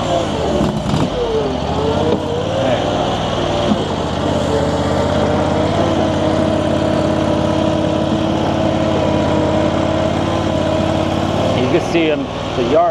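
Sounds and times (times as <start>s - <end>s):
mini skid steer engine running: 0.0s - 12.9s.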